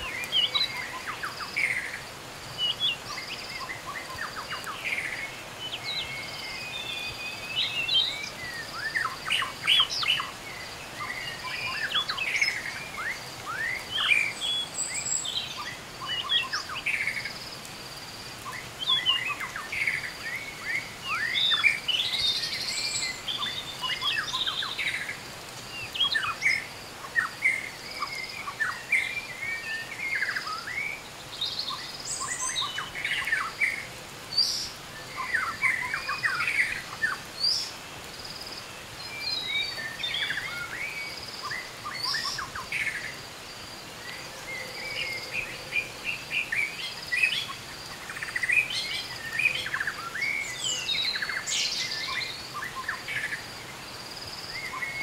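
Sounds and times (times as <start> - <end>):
light rain hissing: 0.0 - 55.0
small birds chirping: 0.0 - 55.0.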